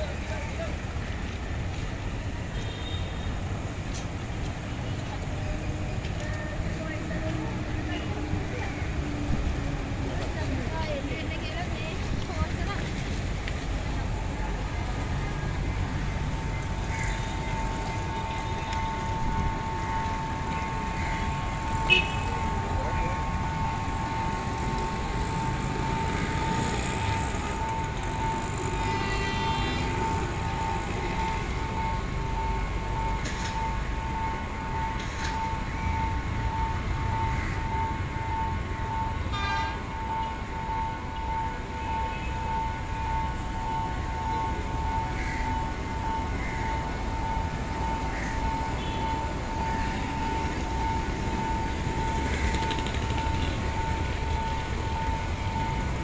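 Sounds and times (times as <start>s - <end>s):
train rattles: 3.4s - 36.8s, 43.1s - 56.0s
train rumbling: 3.4s - 56.0s.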